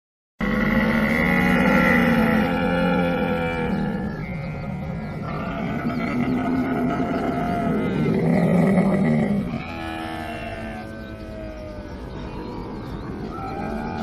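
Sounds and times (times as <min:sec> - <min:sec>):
camel calling: 0:00.4 - 0:14.0.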